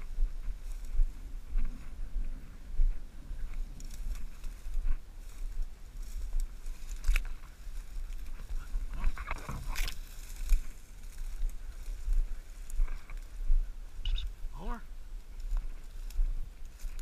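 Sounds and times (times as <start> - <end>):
dry grass brushing against camera: 0.0 - 17.0
wind buffeting microphone: 0.0 - 17.0.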